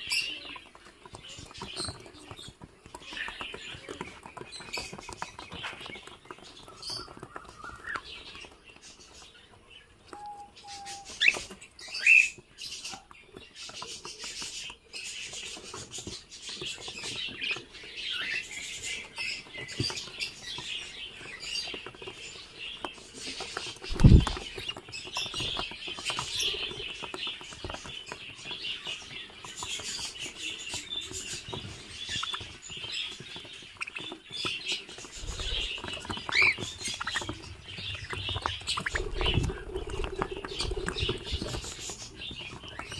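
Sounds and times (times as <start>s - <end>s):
birds pecking at twigs: 0.0s - 42.9s
cockatiels chirping: 0.0s - 42.9s.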